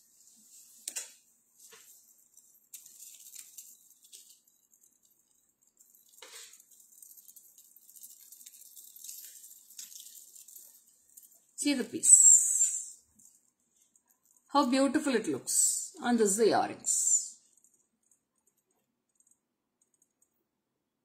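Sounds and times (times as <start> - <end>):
low room hiss: 0.0 - 21.0.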